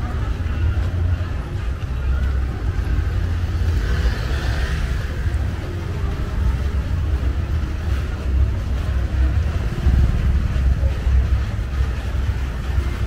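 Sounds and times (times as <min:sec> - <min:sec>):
low rumble of traffic: 0:00.0 - 0:13.0
motorbike engines running: 0:00.0 - 0:13.0.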